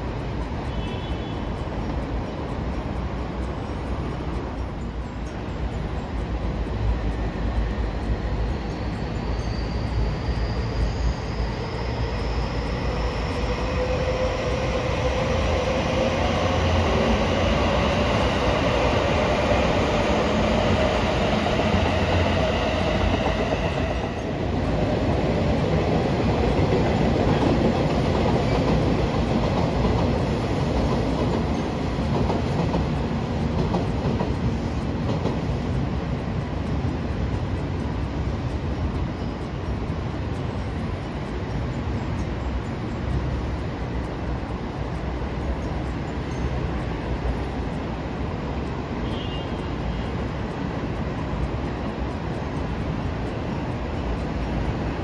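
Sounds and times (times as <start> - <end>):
train rolling noise: 0.0 - 55.0
train whine rising in pitch: 0.0 - 55.0.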